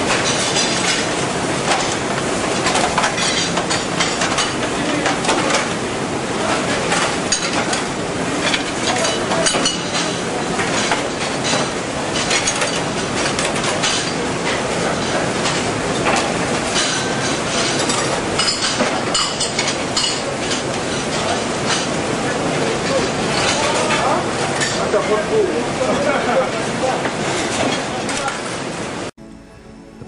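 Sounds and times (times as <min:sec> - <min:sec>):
trays and plates clattering: 0:00.0 - 0:05.8, 0:06.4 - 0:25.3
conveyor dishwasher running: 0:00.0 - 0:30.0.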